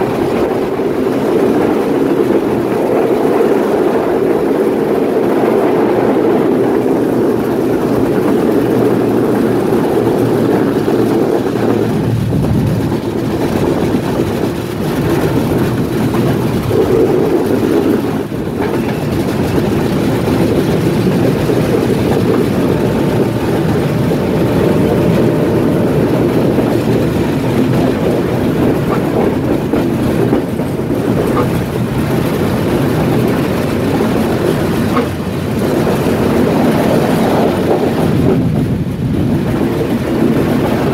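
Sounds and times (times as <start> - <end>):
train rumbling on track: 0.0 - 40.9.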